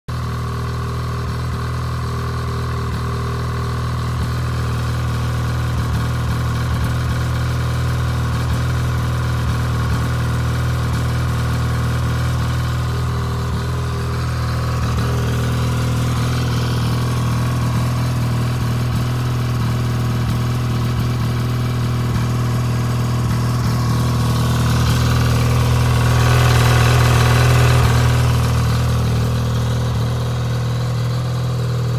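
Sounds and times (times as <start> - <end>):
snowmobile engine idling: 0.1 - 31.9.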